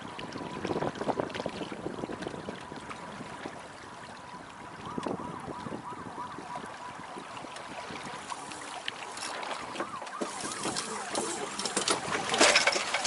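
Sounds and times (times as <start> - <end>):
wind on microphone: 0.0 - 8.8, 9.4 - 13.0
water splashing along hull: 0.0 - 13.0.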